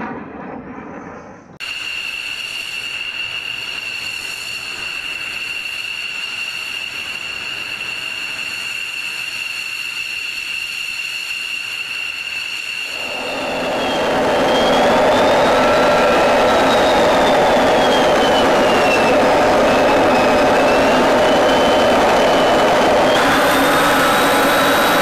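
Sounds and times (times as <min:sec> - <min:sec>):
jet engine idling whine: 0:00.0 - 0:25.0.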